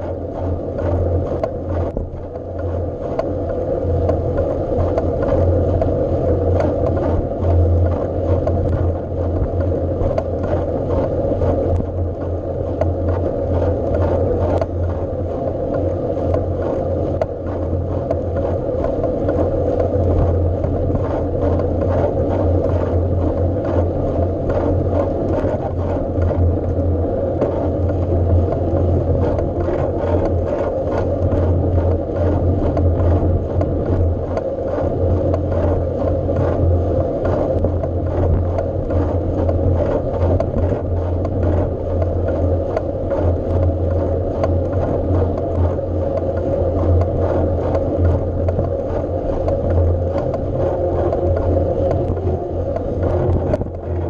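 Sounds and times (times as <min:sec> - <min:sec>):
bike rumble: 0:00.0 - 0:54.0
small rattles and clicks: 0:00.0 - 0:54.0.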